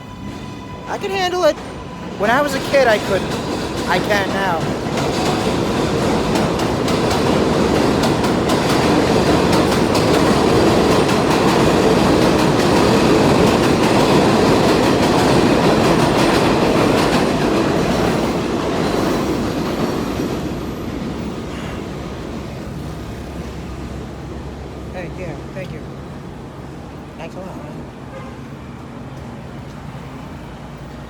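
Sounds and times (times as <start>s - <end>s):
subway train rumbling and rattling: 0.0s - 31.0s.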